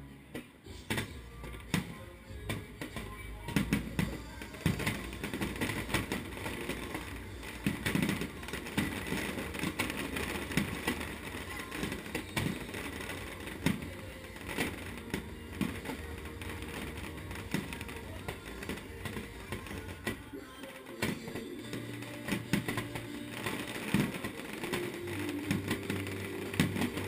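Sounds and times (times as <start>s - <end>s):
fireworks crackling: 0.6s - 27.0s
fireworks bangs: 0.7s - 27.0s.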